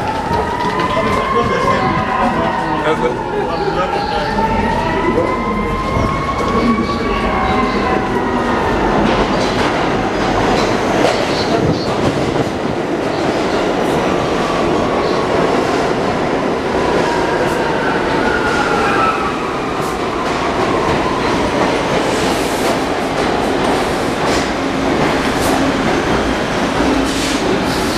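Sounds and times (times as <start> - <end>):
subway train rumble and wheel clatter: 0.0 - 27.9.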